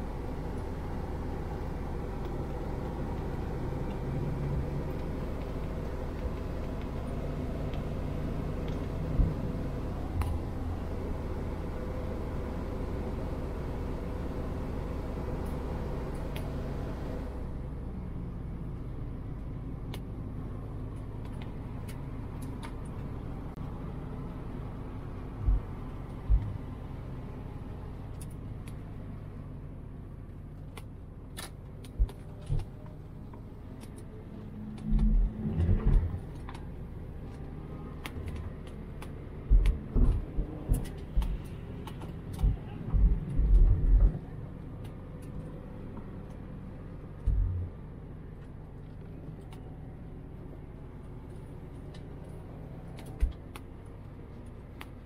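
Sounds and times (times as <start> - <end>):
car engine running at low revs: 0.0 - 55.0.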